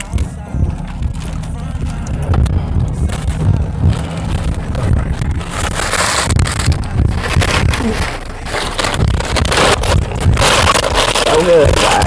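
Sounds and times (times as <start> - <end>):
chewing and crunching food: 0.0 - 12.0
steady low rumble: 0.0 - 12.0.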